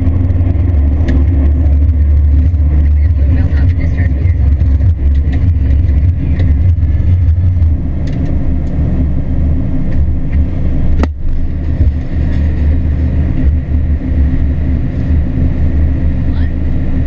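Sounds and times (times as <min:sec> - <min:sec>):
combine harvester low rumble: 0:00.0 - 0:17.0.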